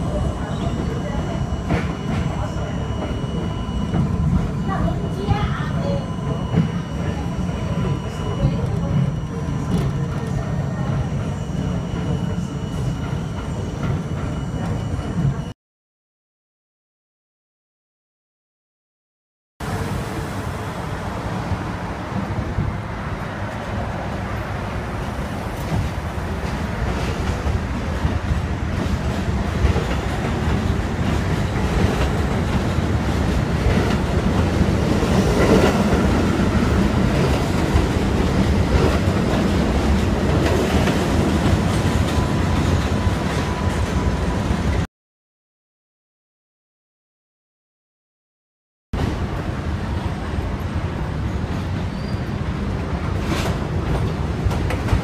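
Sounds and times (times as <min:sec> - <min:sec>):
subway train rumble: 0:00.0 - 0:15.6, 0:19.6 - 0:44.9, 0:49.0 - 0:55.0.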